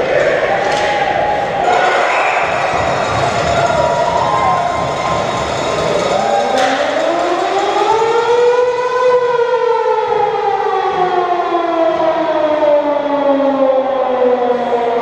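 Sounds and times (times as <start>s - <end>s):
siren winding up and down: 2.2s - 14.6s.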